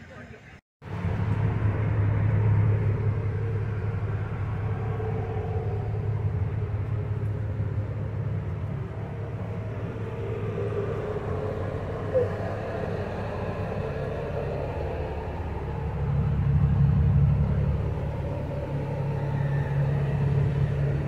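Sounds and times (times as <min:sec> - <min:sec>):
diesel bus engine idling: 0:00.0 - 0:21.0.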